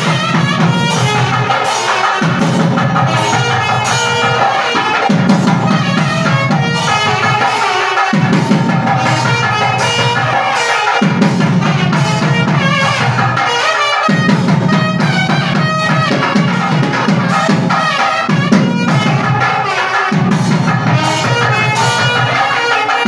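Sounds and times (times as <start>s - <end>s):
drums beating steadily: 0.0s - 23.0s
wind instrument ornamented melody: 0.0s - 23.0s.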